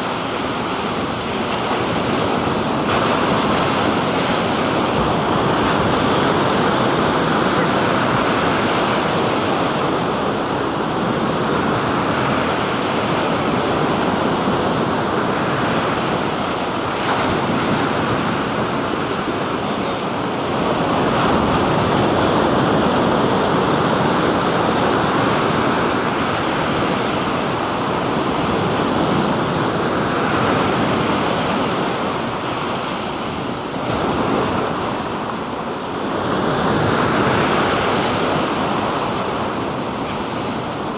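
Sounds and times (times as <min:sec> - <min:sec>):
waves breaking on shore: 0:00.0 - 0:40.9
wind on microphone: 0:00.0 - 0:40.9.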